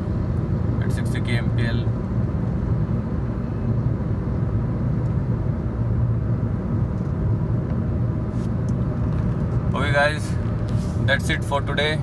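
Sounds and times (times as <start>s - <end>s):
car engine hum: 0.0s - 12.0s
road and tyre noise: 0.0s - 12.0s.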